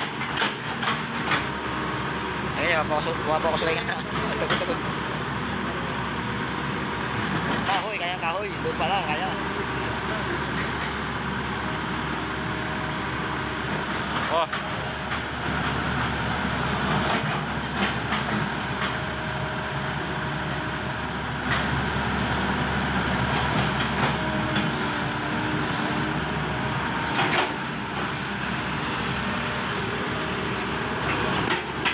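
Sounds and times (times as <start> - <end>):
excavator engine drone: 0.0 - 31.9.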